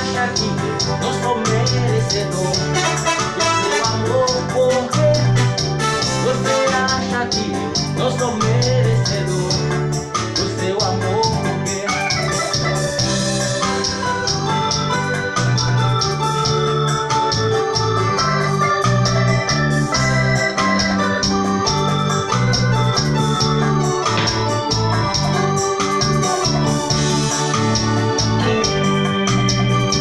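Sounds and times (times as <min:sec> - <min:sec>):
organ-like electronic keyboard: 0:00.0 - 0:30.0
percussion beat: 0:00.0 - 0:30.0.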